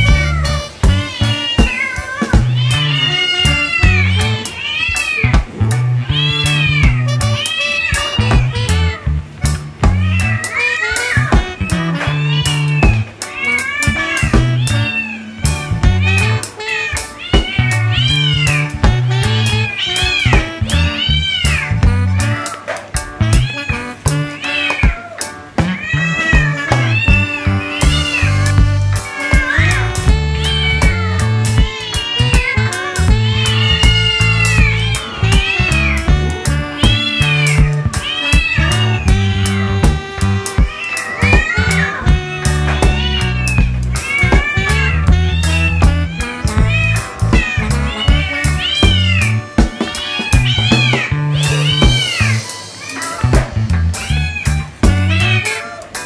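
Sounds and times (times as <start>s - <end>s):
cat meowing: 0.0s - 56.0s
music with bass and beat: 0.0s - 56.0s.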